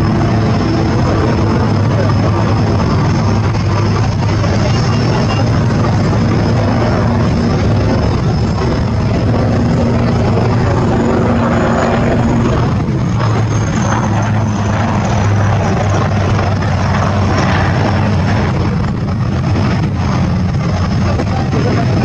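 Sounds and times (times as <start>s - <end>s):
helicopter loud drone: 0.0s - 22.0s.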